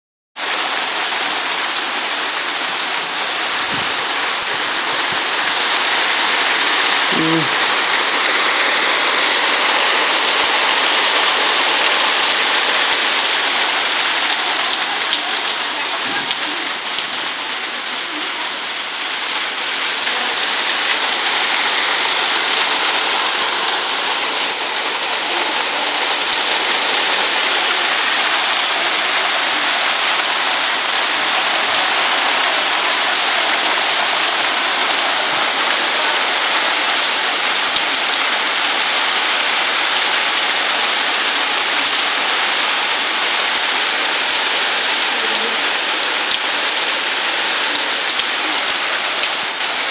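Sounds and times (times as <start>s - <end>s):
heavy rain on paving: 0.4s - 49.9s.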